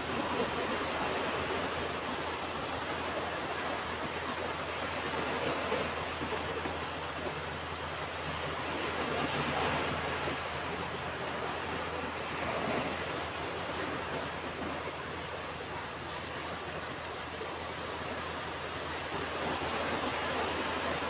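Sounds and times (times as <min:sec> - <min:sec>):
ocean surf washing onto beach: 0:00.0 - 0:21.0.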